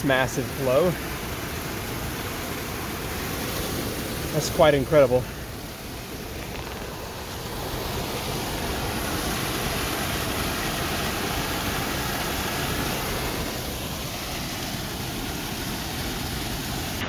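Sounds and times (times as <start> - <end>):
floodwater rushing over spillway: 0.0 - 17.0.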